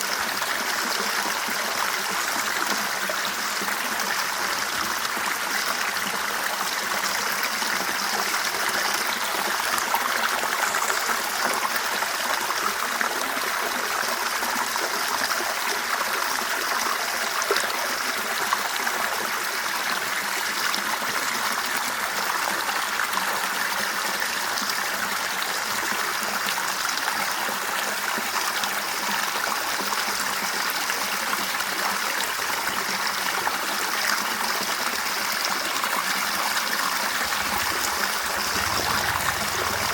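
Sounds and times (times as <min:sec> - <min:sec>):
river water running over stones: 0:00.0 - 0:39.9.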